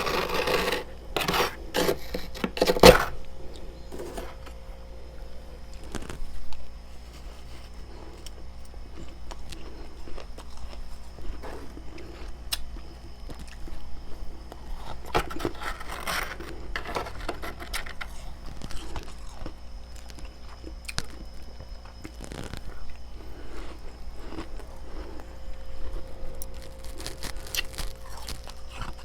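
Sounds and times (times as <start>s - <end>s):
frost being chewed crunching: 0.0s - 4.6s, 5.6s - 29.0s.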